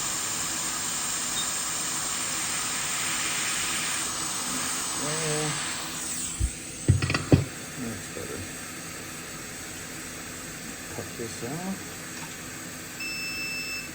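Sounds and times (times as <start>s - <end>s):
hot air station hissing: 0.0s - 13.9s.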